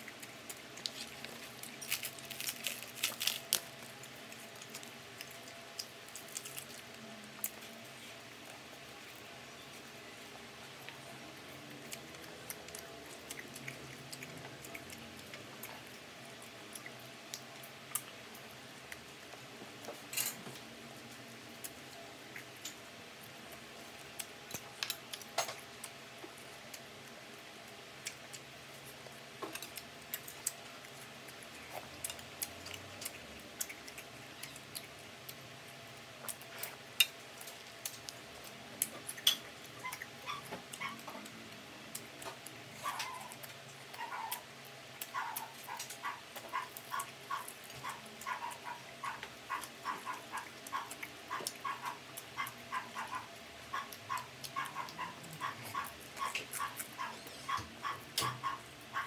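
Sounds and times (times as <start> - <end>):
crispy food being chewed: 0.0 - 59.0
faint steady hum: 0.0 - 59.0.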